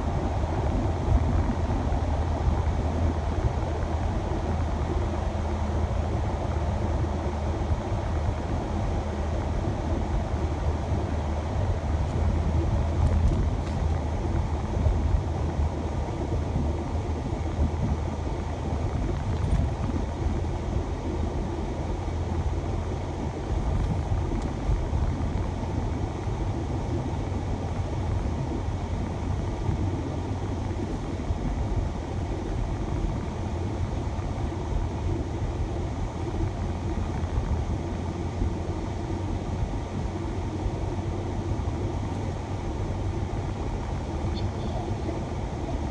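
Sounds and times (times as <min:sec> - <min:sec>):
van driving rumble: 0:00.0 - 0:45.9.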